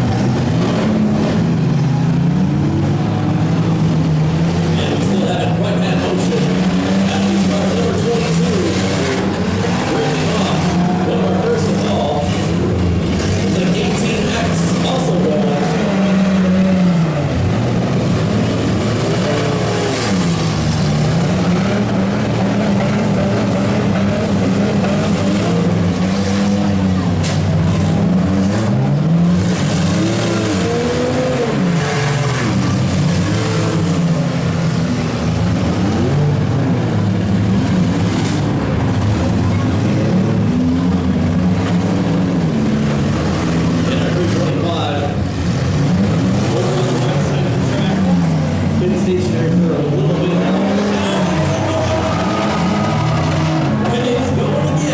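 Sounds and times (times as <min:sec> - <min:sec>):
multiple engines revving: 0:00.0 - 0:54.9.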